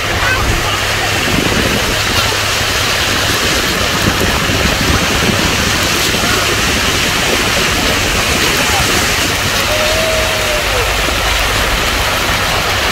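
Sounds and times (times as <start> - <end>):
car tyres spraying on wet road: 0.0 - 12.9
heavy rain: 0.0 - 12.9.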